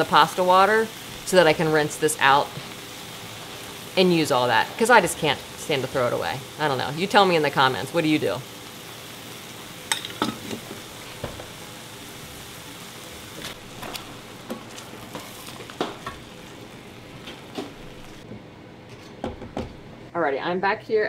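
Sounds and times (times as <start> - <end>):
pasta boiling: 0.0 - 18.3
sauce sizzling and bubbling: 0.0 - 18.3.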